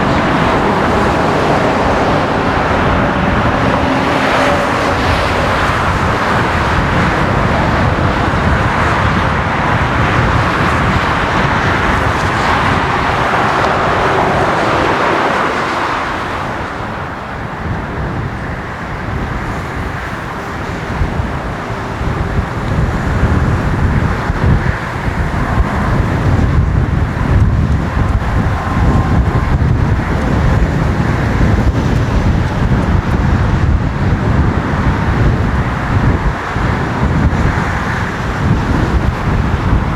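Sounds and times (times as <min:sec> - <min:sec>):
jet engine low rumble: 0:00.0 - 0:39.9
jet engine roar: 0:00.0 - 0:39.9.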